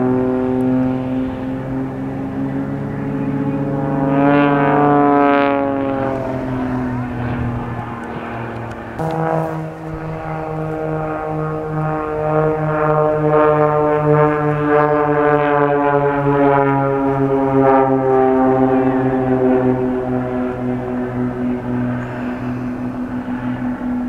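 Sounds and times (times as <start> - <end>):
propeller aircraft droning: 0.0 - 24.0.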